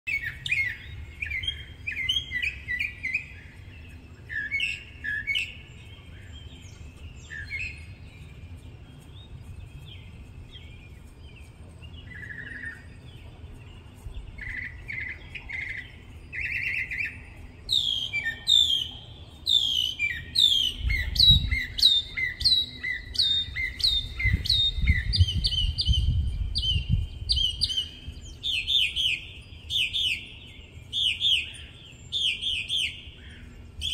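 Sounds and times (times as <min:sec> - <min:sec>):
mockingbird singing: 0:00.1 - 0:33.9.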